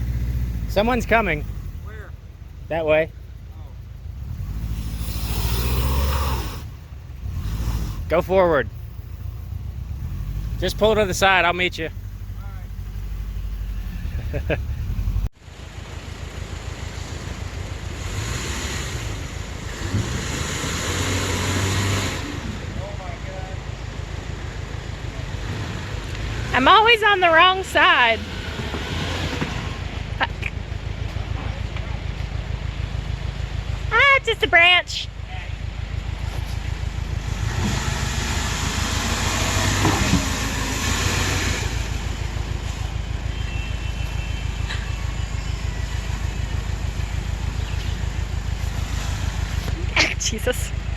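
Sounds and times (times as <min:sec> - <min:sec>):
car engine pulling under load: 0:00.0 - 0:34.8, 0:35.6 - 0:50.9
low vehicle rumble: 0:00.0 - 0:50.9.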